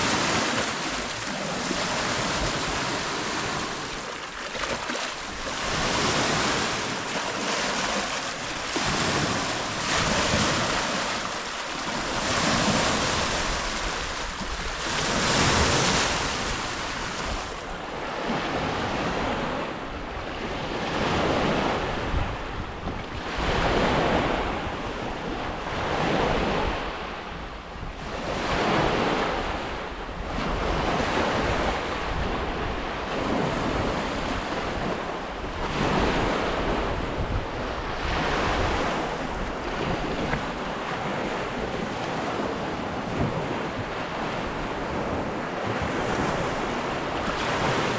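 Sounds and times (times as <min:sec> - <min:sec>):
waves washing on shore: 0:00.0 - 0:27.4, 0:28.0 - 0:47.9.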